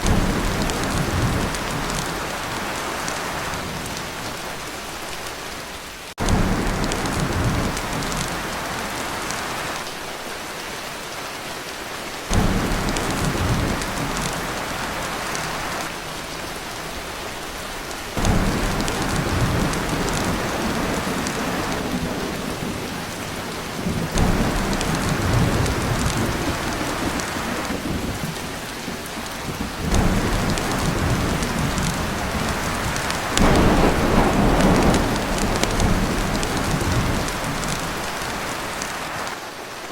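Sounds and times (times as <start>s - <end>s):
thunder rumbling: 0.0s - 4.7s, 6.2s - 9.8s, 12.3s - 39.1s
torrential rain on a tin roof: 0.0s - 39.9s.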